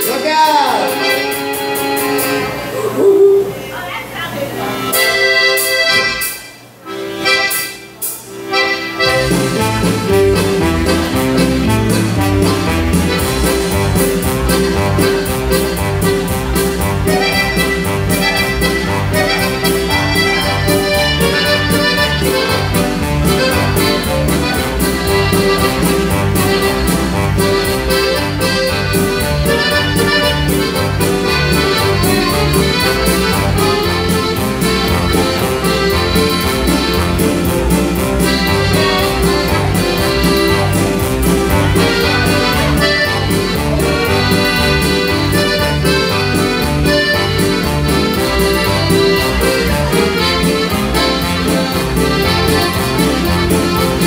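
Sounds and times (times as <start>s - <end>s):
accordion playing lively tune: 0.0s - 3.7s, 4.5s - 54.0s
bass and percussion beat: 9.1s - 54.0s.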